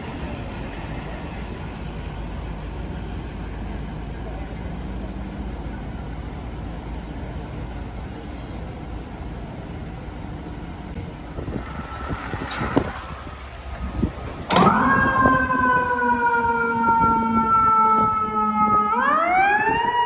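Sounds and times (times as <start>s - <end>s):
fire truck siren wailing: 0.0s - 20.0s
street traffic: 0.0s - 20.0s.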